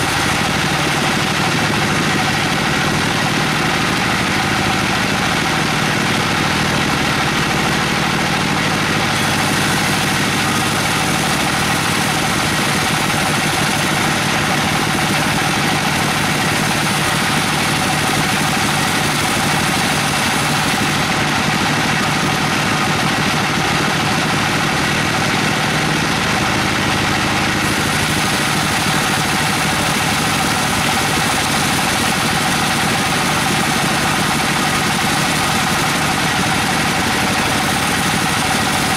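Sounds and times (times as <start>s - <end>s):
band saw cutting timber: 0.0s - 38.9s.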